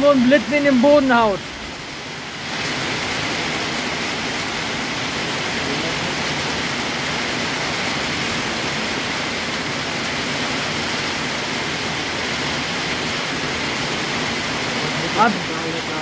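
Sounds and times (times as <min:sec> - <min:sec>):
heavy rain pouring: 0:00.0 - 0:16.0
rain running off a roof: 0:00.0 - 0:16.0.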